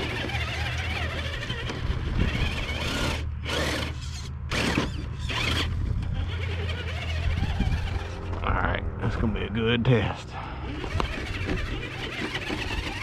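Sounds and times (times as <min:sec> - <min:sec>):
electric motor and gears whirring: 0:00.0 - 0:13.0.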